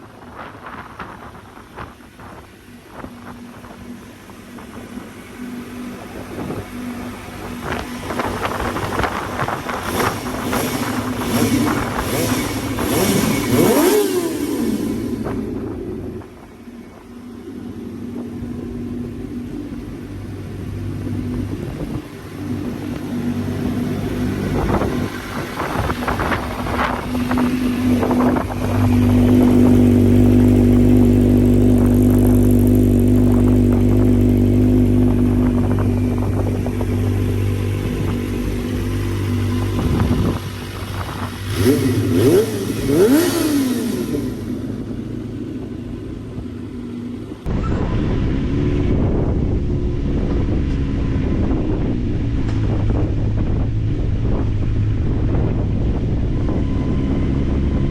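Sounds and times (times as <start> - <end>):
motorcycle engine revving: 2.2 - 57.9.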